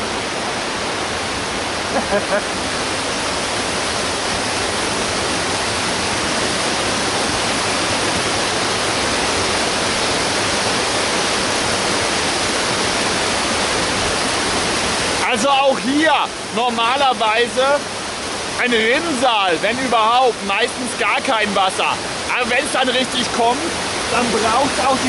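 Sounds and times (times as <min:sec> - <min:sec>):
water rushing over stones: 0:00.0 - 0:25.0.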